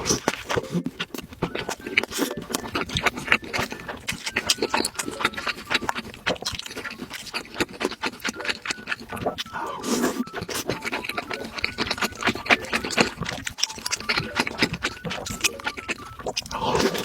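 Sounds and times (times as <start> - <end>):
person chewing food: 0.0 - 17.0
wet mouth clicks and smacks: 0.0 - 17.0.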